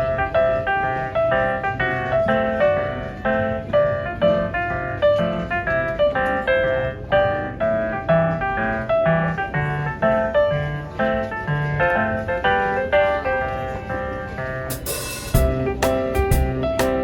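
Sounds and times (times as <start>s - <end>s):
piano playing gentle melody: 0.0s - 17.0s.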